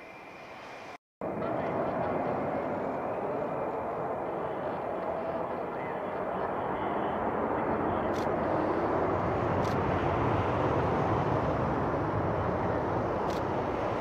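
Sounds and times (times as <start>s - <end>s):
jet engine rushing: 0.0s - 14.0s.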